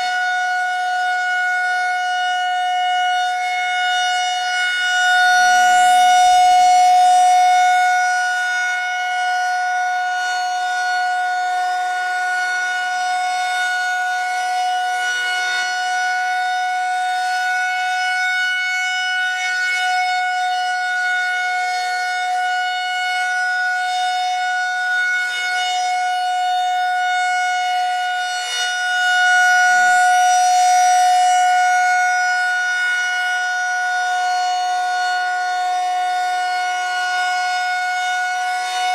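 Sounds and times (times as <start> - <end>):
rotating siren steady tone: 0.0 - 38.9.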